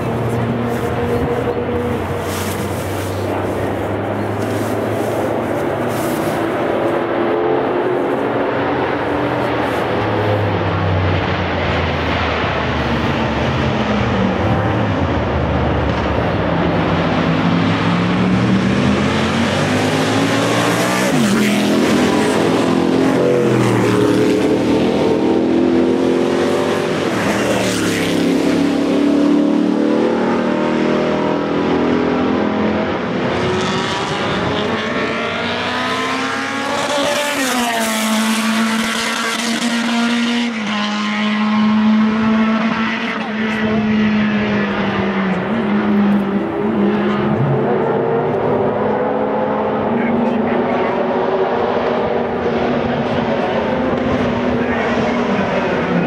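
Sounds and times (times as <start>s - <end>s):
racing car engines revving: 0.0s - 56.0s
racing cars passing by: 0.0s - 56.0s.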